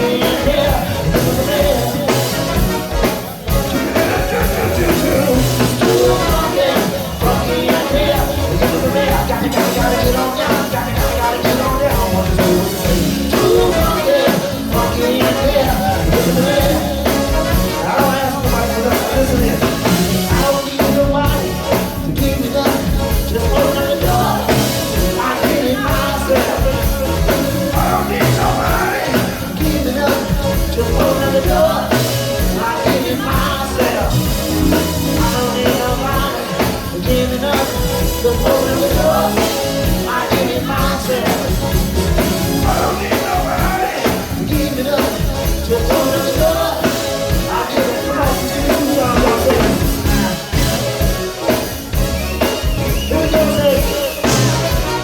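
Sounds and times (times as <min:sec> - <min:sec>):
funk band playing: 0:00.0 - 0:55.0
steady drum beat: 0:00.0 - 0:55.0
sung vocals: 0:00.0 - 0:55.0.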